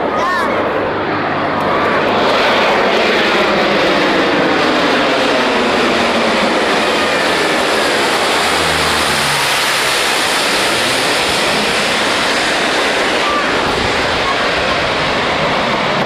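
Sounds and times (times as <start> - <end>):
propeller plane flying overhead: 0.0 - 16.0.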